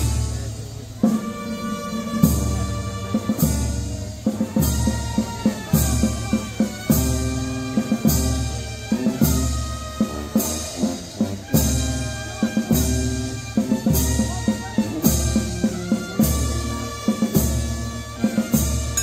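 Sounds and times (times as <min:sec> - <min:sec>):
bass drum and cymbal crash: 0:00.0 - 0:19.0
brass band playing march: 0:00.0 - 0:19.0.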